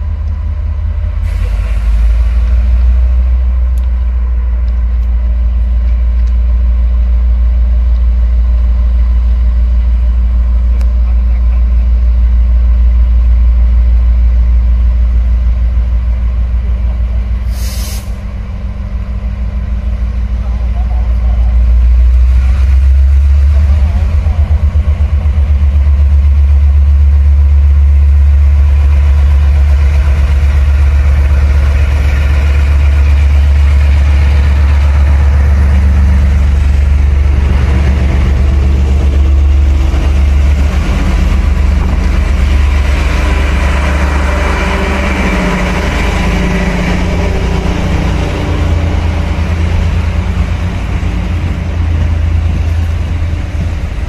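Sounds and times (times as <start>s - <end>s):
deep locomotive engine drone: 0.0s - 54.0s
train rolling past: 0.0s - 54.0s.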